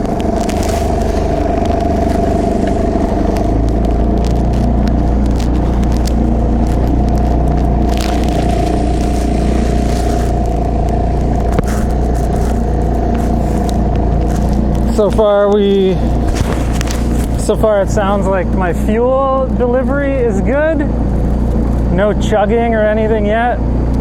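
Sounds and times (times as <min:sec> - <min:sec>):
wind noise: 0:00.0 - 0:20.3
water noise: 0:00.0 - 0:22.0
outboard motor running: 0:00.0 - 0:24.0.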